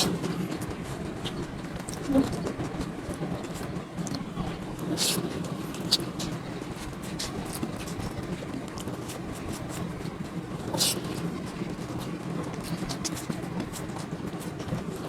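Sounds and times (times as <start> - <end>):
background hum: 0.0 - 15.0
low murmured voices: 0.0 - 15.0.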